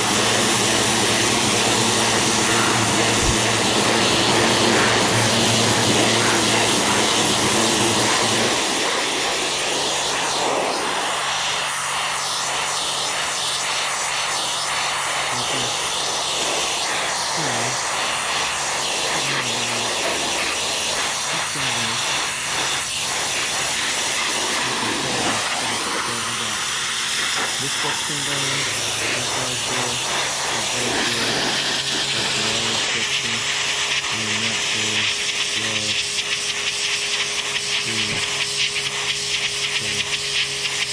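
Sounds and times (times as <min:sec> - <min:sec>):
motor and pump humming: 0:00.0 - 0:40.9
pressure washer water jet hiss: 0:00.0 - 0:40.9.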